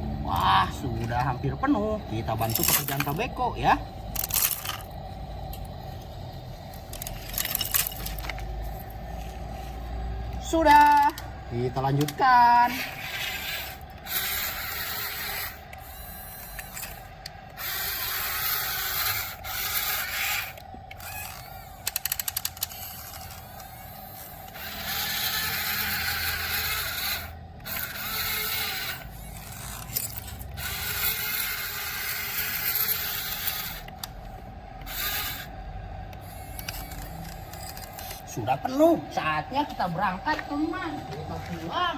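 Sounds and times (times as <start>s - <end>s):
small electric motors whirring: 0.0s - 41.9s.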